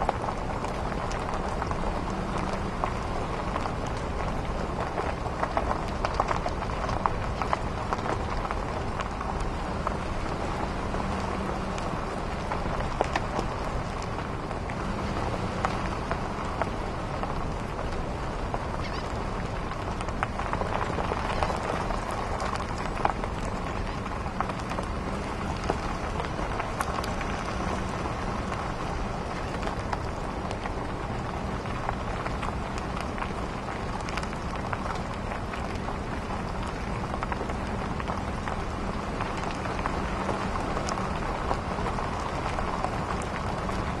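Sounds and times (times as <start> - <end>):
faint low engine hum: 0.0 - 44.0
small rattles and clicks: 0.0 - 44.0
vehicle rolling over dirt road: 0.0 - 44.0.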